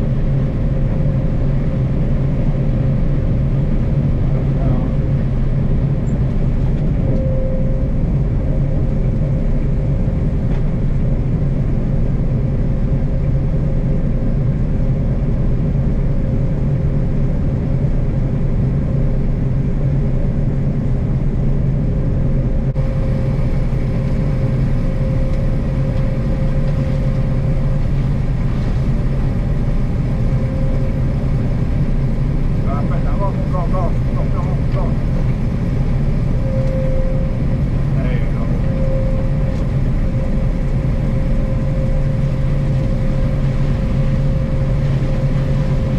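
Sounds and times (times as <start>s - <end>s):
harvest machinery engine drone: 0.0s - 45.9s.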